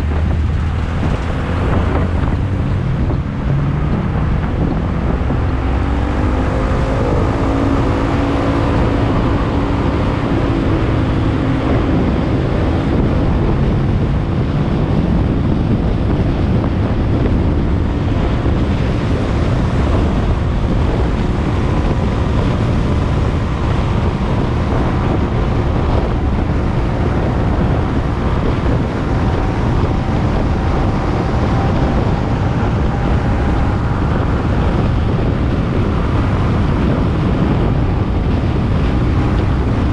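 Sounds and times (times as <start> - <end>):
motorcycle engine accelerating: 0.0 - 39.9
wind rushing over microphone: 0.0 - 39.9.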